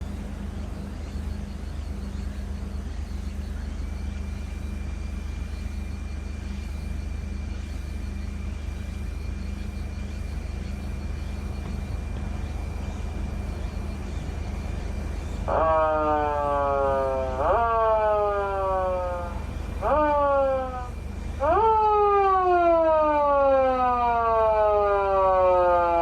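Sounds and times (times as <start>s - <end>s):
car engine idling: 0.0s - 25.7s
faint high-pitched whine: 0.0s - 26.0s.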